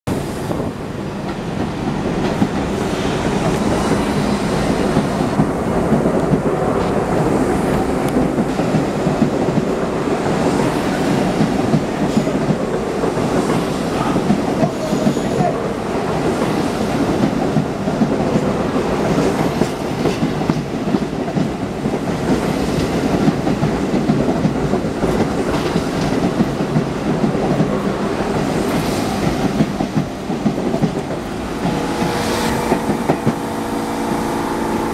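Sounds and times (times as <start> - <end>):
subway train rumbling past: 0.1 - 34.9.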